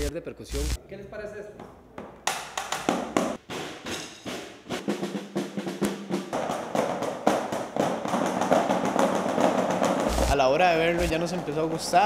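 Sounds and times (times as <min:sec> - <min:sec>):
sticks drumming on snare drums: 0:02.3 - 0:12.0.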